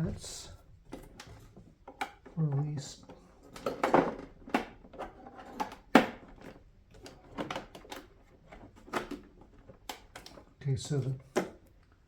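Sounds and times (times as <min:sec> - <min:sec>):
hard plastic parts clicking and knocking: 0:00.0 - 0:11.8.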